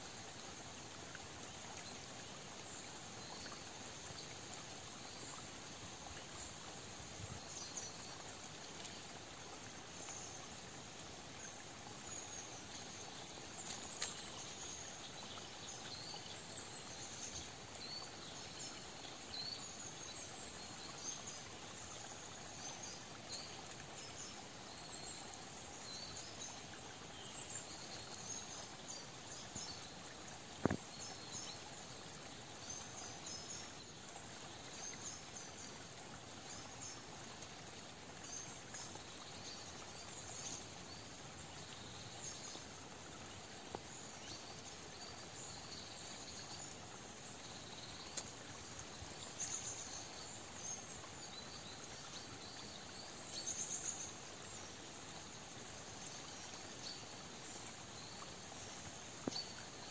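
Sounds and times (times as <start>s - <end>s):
soft steady hiss: 0.0s - 59.9s.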